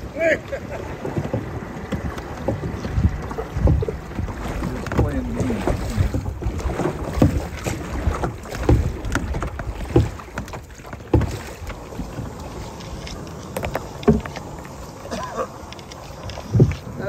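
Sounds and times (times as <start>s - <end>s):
paddles pulling through water: 0.0s - 17.0s.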